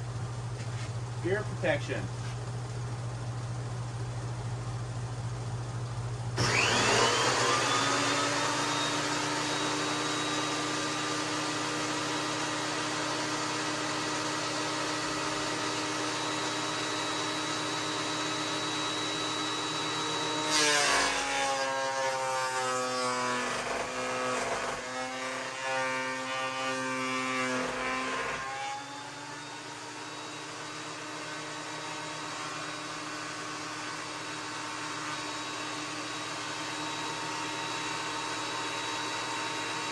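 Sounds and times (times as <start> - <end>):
planer motor whining: 5.8 - 39.9
planer cutting wood: 6.4 - 39.9.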